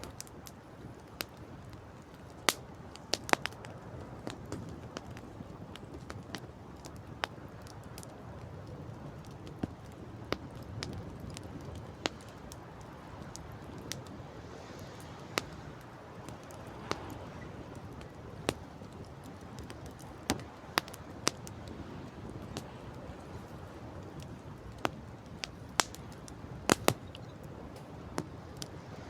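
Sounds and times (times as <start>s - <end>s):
campfire crackling and popping: 0.0s - 29.0s
low rush of wind: 0.0s - 29.0s.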